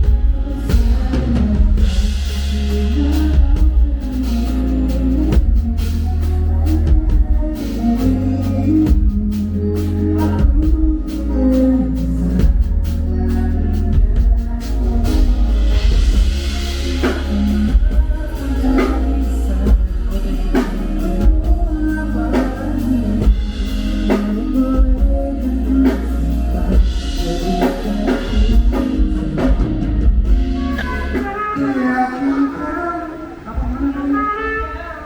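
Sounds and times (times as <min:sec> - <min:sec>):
drum-kit beat: 0:00.0 - 0:32.4
band music: 0:00.0 - 0:35.0.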